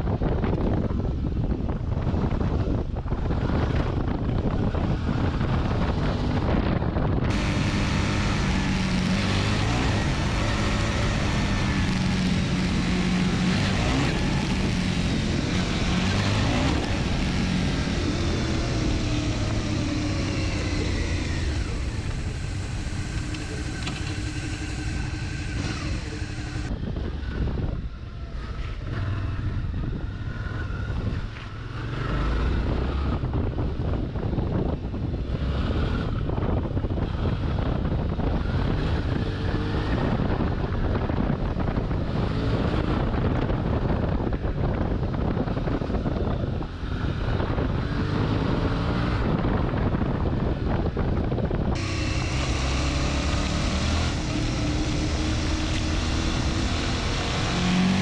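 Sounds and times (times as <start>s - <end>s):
wind on microphone: 0.0s - 58.0s
motorcycle engine revving: 2.1s - 58.0s.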